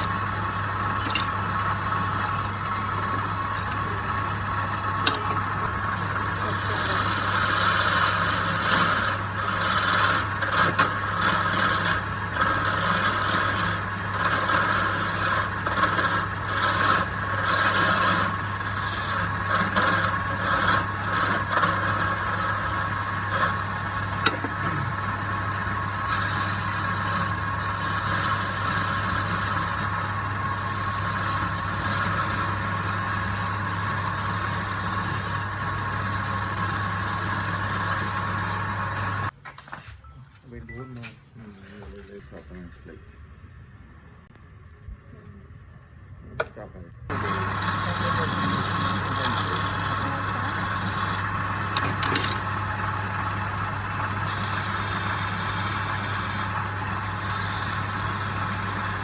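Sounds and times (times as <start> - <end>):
wood lathe humming: 0.0 - 39.4, 47.1 - 59.0
tool scraping spinning wood: 0.0 - 39.8, 47.1 - 59.0.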